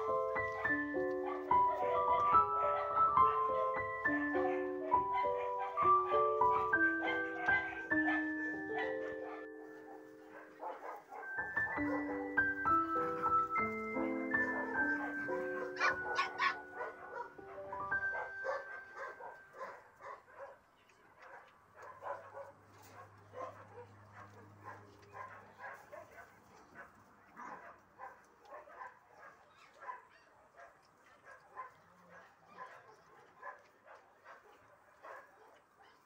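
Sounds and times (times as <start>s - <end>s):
puppies yipping and barking: 0.0s - 20.5s, 27.4s - 36.0s.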